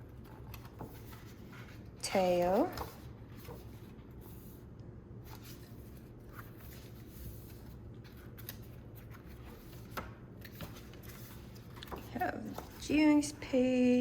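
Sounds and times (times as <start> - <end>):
paper pages rustling: 0.0 - 13.1
low room hum: 0.0 - 14.0.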